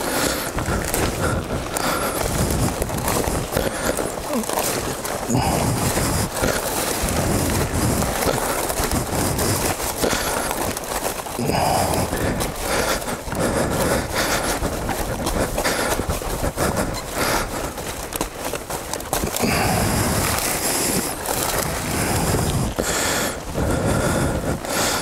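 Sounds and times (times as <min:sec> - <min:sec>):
branches and undergrowth rustling: 0:00.0 - 0:25.0.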